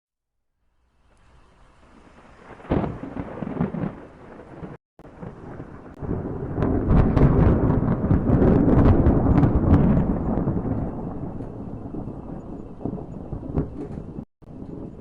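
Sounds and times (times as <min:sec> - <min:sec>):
thunder rolling rumble: 0:01.1 - 0:15.0
thunder crack: 0:01.7 - 0:15.0.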